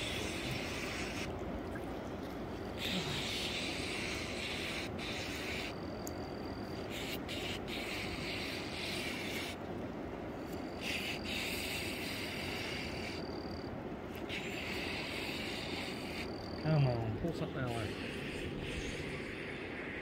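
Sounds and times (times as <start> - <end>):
buzzing frog or insect chorus: 0.0 - 1.4, 2.6 - 9.6, 10.3 - 20.0.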